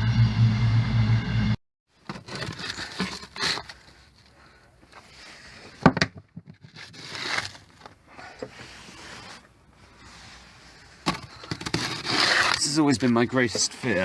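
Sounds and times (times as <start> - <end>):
rustling and scraping: 1.9 - 14.0.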